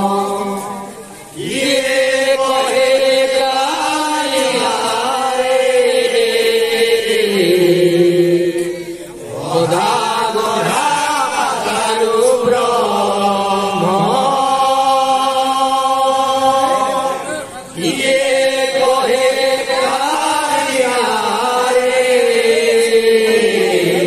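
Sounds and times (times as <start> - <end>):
men chanting together: 1.4 - 24.0.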